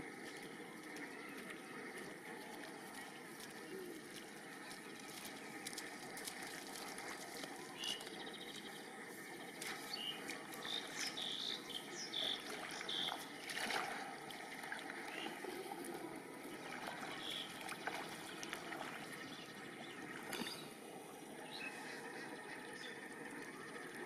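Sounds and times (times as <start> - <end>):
water sloshing and trickling: 0.0 - 24.0.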